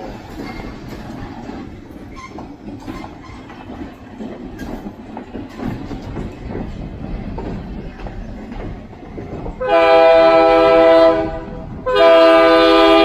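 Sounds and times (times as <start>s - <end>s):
train rumbling past: 0.0s - 13.0s
wheels knocking on rail joints: 0.0s - 13.0s.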